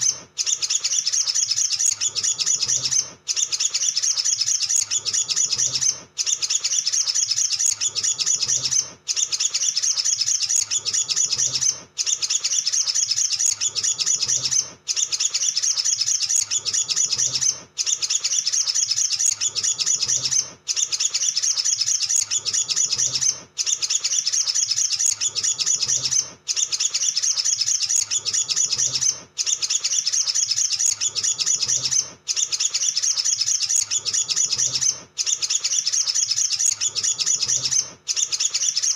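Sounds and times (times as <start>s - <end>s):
sunbird twittering song: 0.0s - 38.9s.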